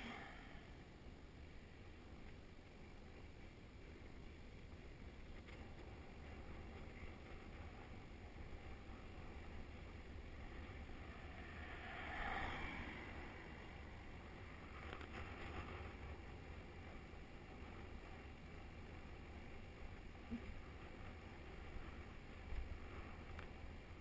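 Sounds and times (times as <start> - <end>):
bicycle tyre hum on road: 0.0 - 24.0
wind rushing over microphone: 0.0 - 24.0.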